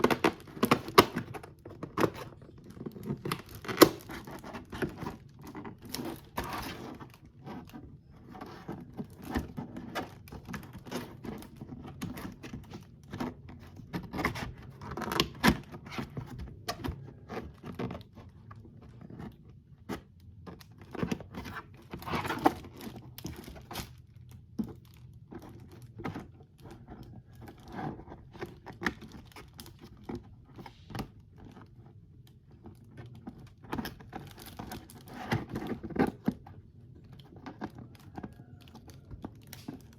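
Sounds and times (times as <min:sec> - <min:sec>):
plastic box clicks and scrapes: 0:00.0 - 0:39.9.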